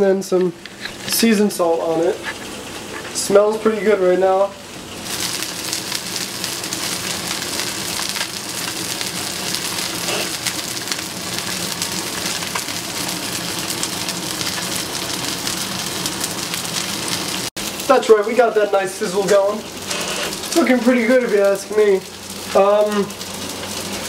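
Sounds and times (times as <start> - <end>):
fish sizzling in frying pan: 0.7 - 24.0.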